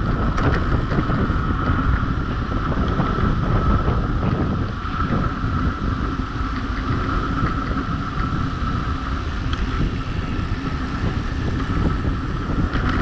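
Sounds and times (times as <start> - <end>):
high-pitched whine: 0.0 - 13.0
wind buffeting microphone: 0.0 - 13.0.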